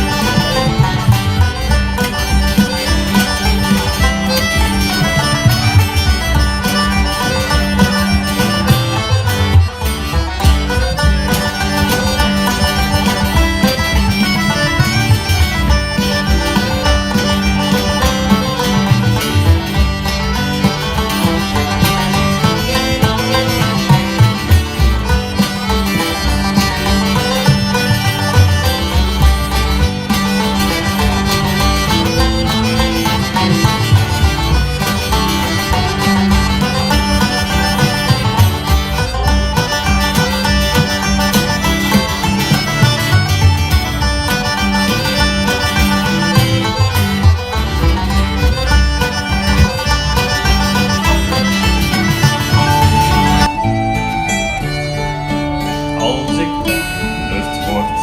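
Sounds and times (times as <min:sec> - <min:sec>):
folk band playing instrumental tune: 0:00.0 - 0:58.0.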